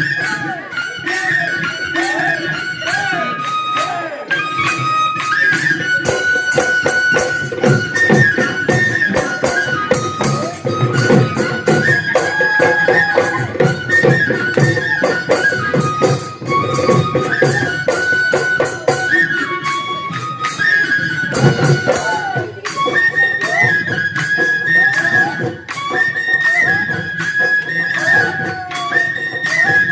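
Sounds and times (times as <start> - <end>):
piping wind instrument melody: 0.0 - 29.9.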